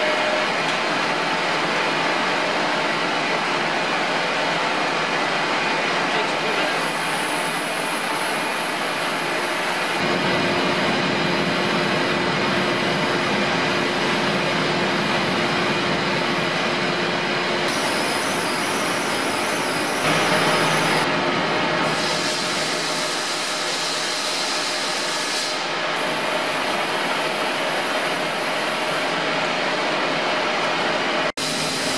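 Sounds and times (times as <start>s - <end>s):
lathe machine running: 0.0s - 31.9s.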